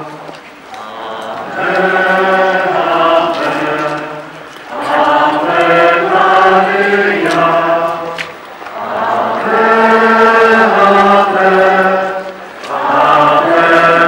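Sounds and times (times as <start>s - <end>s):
procession singing a hymn: 0.0s - 14.0s.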